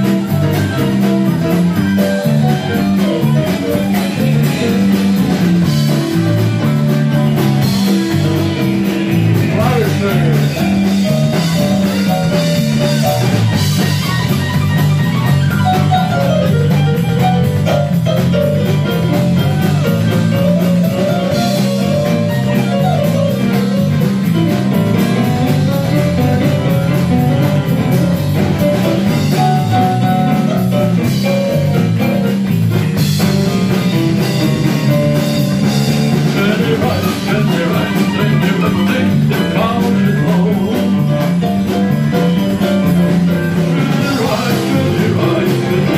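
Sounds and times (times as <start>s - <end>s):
bass line: 0.0s - 45.9s
drums with cymbals: 0.0s - 45.9s
sliding lead guitar notes: 0.0s - 45.9s.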